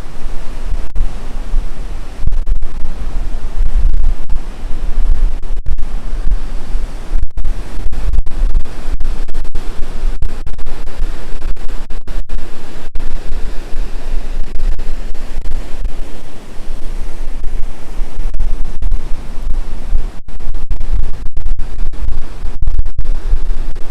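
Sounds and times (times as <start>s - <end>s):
surf washing: 0.0s - 23.9s
wind buffeting microphone: 0.0s - 23.9s.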